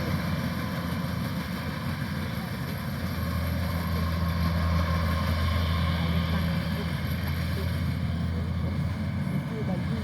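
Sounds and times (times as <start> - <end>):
combine harvester engine humming: 0.0 - 10.0.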